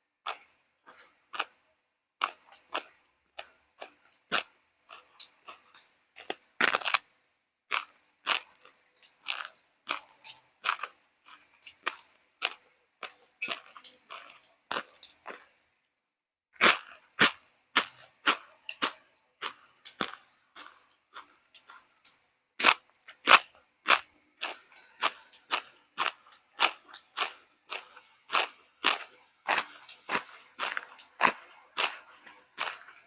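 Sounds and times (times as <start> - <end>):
crunchy food being chewed: 0.2 - 15.9, 16.6 - 33.0.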